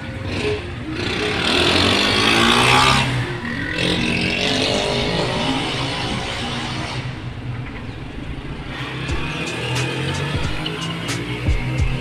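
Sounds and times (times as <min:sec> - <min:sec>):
vehicle engine passing by: 0:00.2 - 0:12.0.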